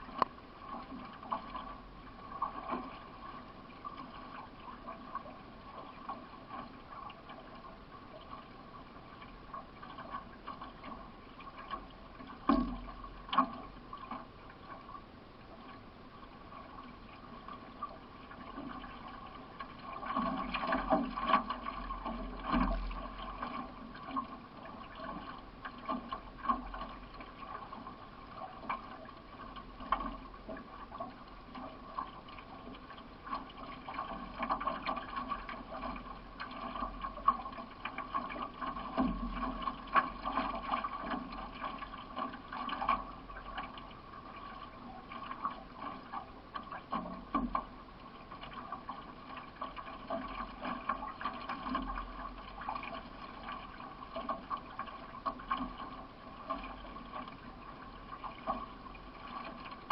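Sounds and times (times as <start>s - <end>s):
paddle strokes splashing: 0.0s - 59.9s
water splashing and gurgling: 0.0s - 59.9s.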